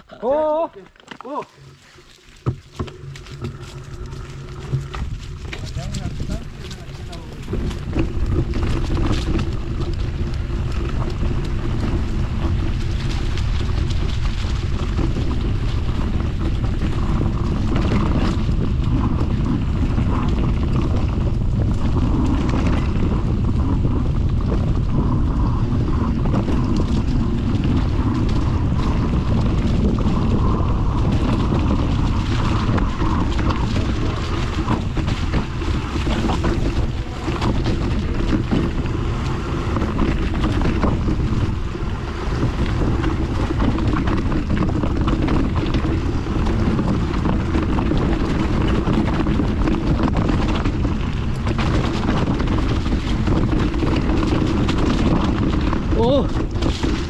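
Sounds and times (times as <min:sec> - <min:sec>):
wind buffeting microphone: 0:01.4 - 0:57.0.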